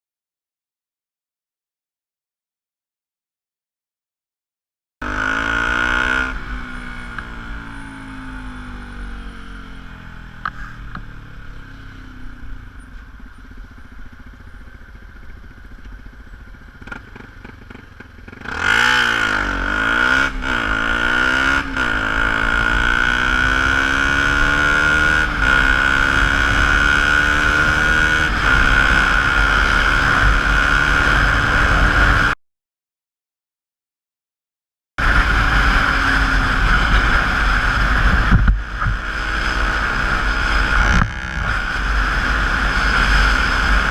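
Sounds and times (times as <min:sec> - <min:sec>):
motorcycle engine revving: 0:05.0 - 0:32.4, 0:35.0 - 0:43.9.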